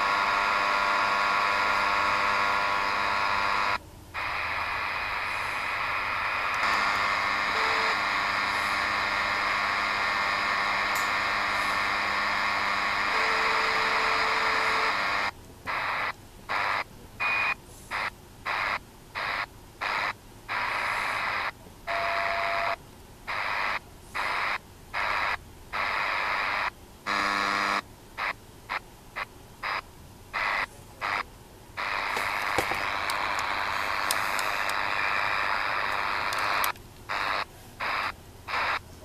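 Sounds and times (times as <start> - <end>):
radio static hiss: 0.0 - 39.0.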